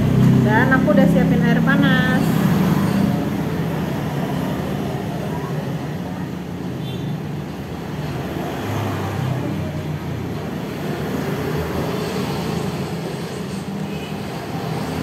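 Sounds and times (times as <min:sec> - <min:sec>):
motor vehicles rumbling: 0:00.0 - 0:15.0.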